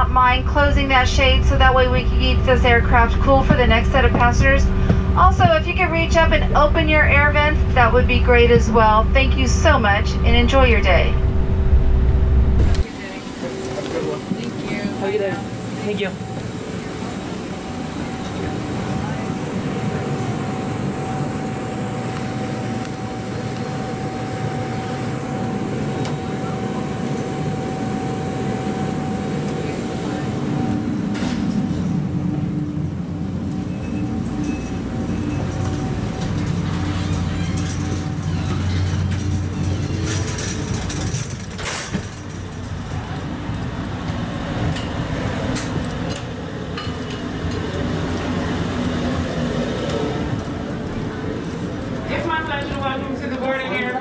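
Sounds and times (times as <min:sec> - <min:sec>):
low rumble and hum: 0:00.0 - 0:54.0
machinery drone with high whine: 0:00.0 - 0:54.0.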